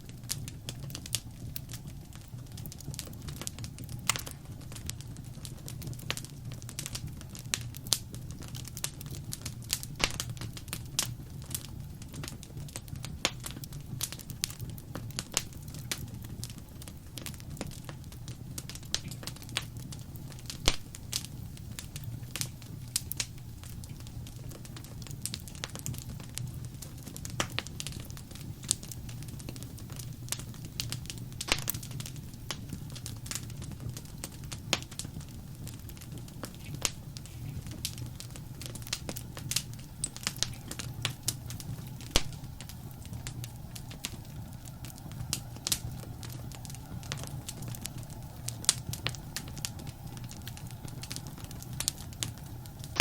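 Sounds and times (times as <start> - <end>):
wood fire burning: 0.0 - 53.0.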